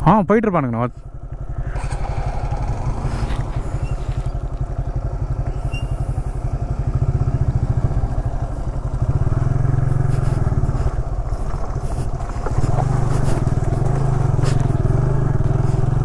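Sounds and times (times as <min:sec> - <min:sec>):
motorcycle engine running: 0:00.9 - 0:16.0.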